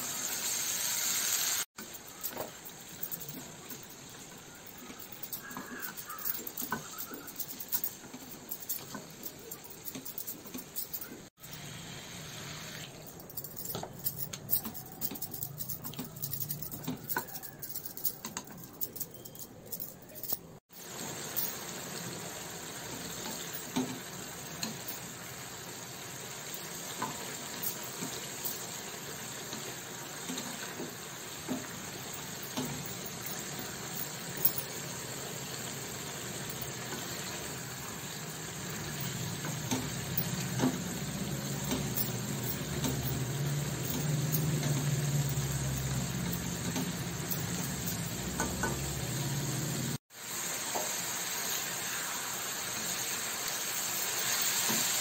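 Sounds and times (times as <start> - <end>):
vegetables sizzling in oil: 0.0 - 9.9, 10.6 - 13.1, 20.7 - 55.0.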